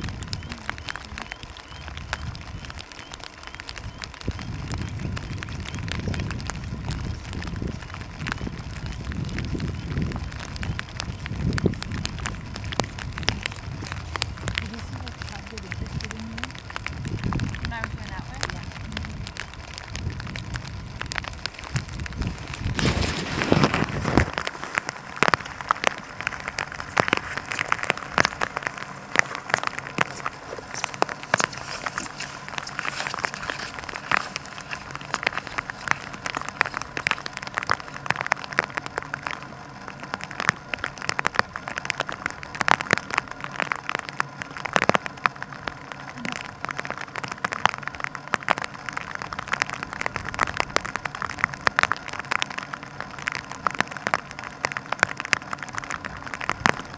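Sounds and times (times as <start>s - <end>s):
light rain pattering: 0.0s - 56.9s.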